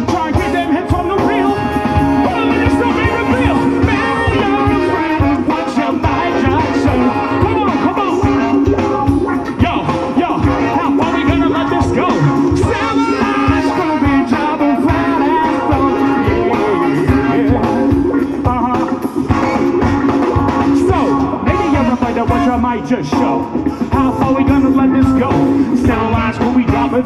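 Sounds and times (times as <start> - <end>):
person singing: 0.0 - 19.8, 20.6 - 27.0
live rock band playing: 0.0 - 27.0.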